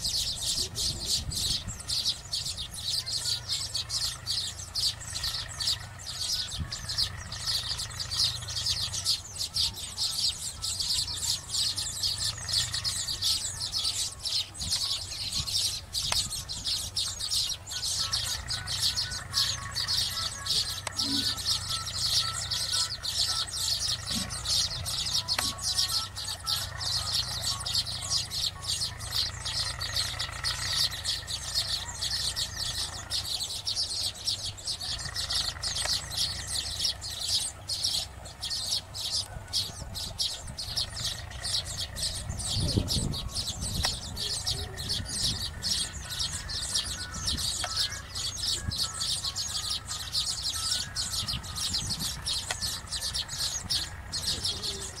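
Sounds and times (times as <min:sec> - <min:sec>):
birds chattering and chirping: 0:00.0 - 0:55.0.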